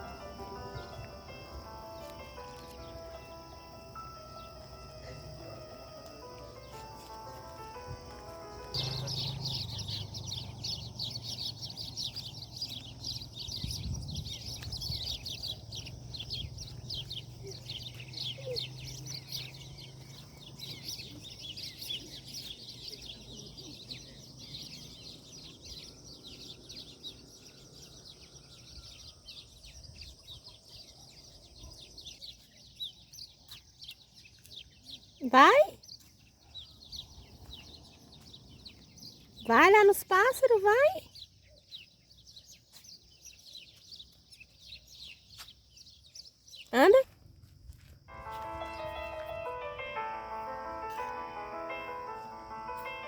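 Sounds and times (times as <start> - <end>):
birds chirping: 0.0 - 47.2, 48.0 - 53.0.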